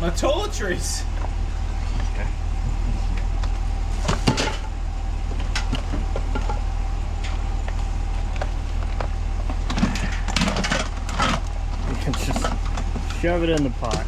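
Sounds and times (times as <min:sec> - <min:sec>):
steady low hum: 0:00.0 - 0:14.0
gear knocking and clattering: 0:01.9 - 0:14.0.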